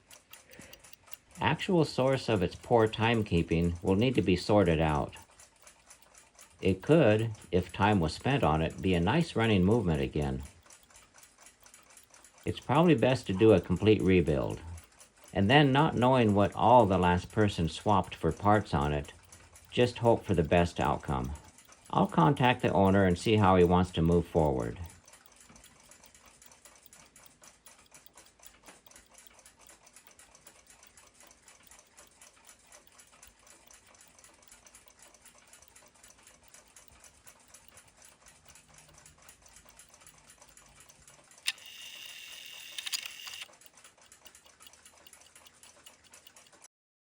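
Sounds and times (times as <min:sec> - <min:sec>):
clock ticking rapidly: 0:00.0 - 0:46.7.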